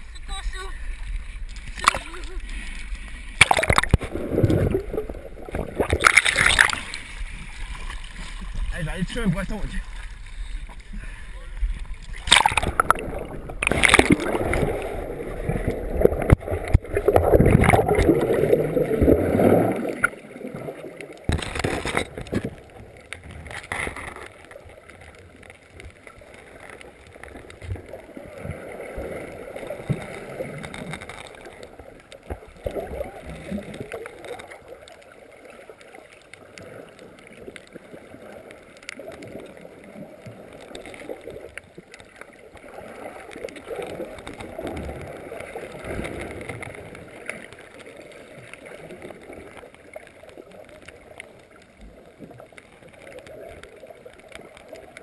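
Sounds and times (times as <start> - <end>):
churning bubbles and rushing water: 0.0 - 55.0
muffled underwater rumble: 0.0 - 55.0.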